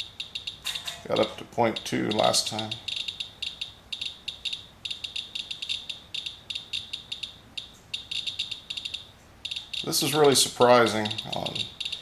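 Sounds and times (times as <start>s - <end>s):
geiger counter chirping: 0.0s - 12.0s.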